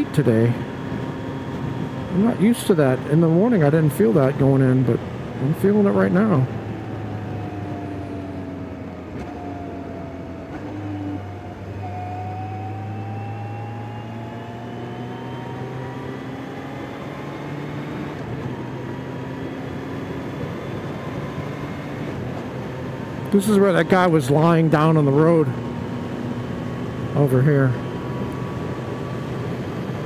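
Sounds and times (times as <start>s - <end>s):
motorcycle engine hum: 0.0s - 30.0s
wind and road noise: 0.0s - 30.0s.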